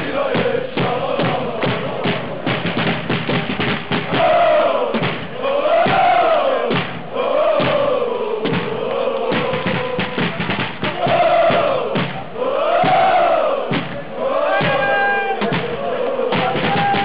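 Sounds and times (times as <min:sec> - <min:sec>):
bass drums beating: 0:00.0 - 0:17.0
football supporters chanting: 0:00.0 - 0:17.0.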